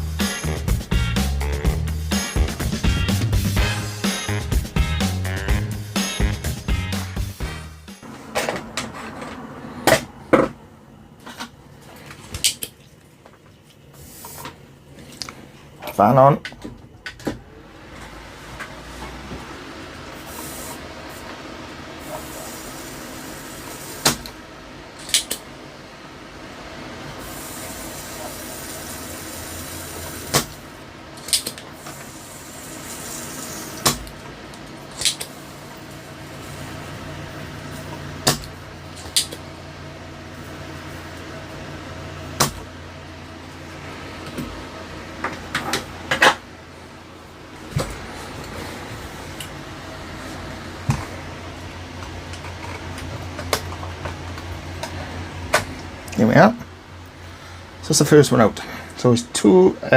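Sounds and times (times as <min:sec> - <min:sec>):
electric fans humming: 0:00.0 - 0:59.9.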